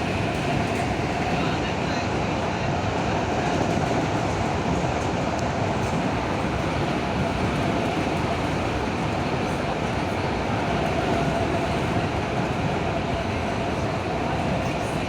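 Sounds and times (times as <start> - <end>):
electric train running: 0.0 - 15.0.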